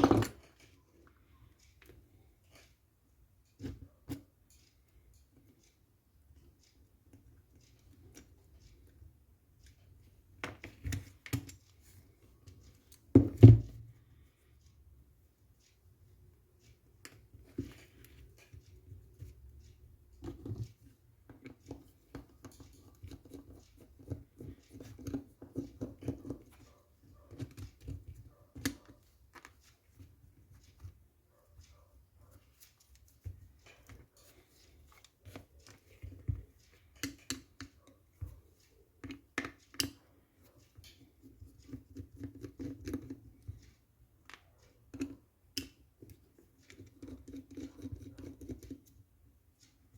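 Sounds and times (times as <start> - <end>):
small clicks and taps of parts: 0.0 - 49.9.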